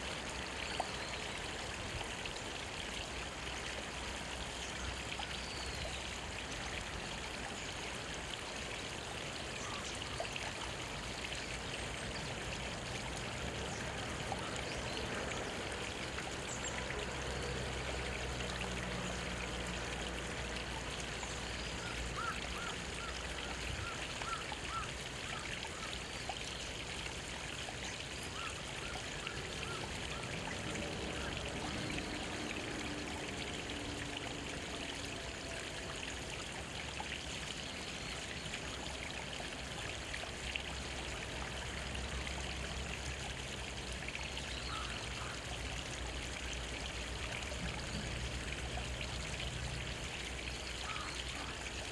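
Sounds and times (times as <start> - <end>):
stream trickling over rocks: 0.0 - 51.9.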